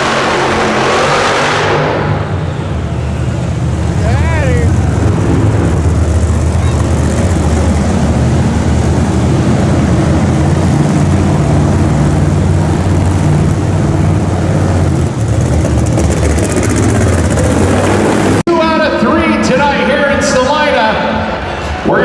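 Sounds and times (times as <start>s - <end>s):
truck engine rumbling: 0.0s - 21.9s.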